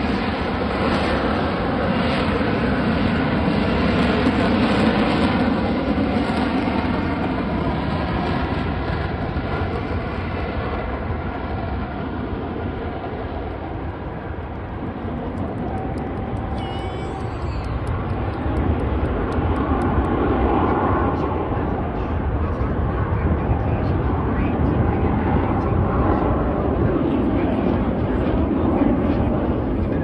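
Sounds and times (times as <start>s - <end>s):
jet engine roaring with whine: 0.0s - 30.0s.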